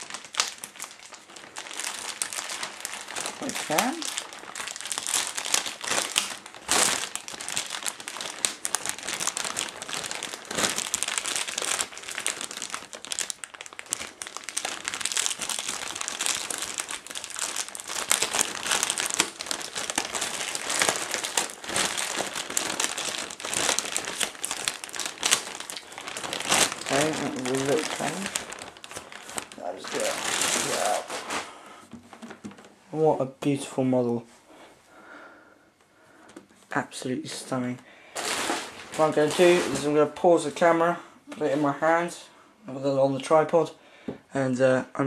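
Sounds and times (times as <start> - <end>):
plastic bag crinkling: 0.0 - 32.9, 36.3 - 42.1.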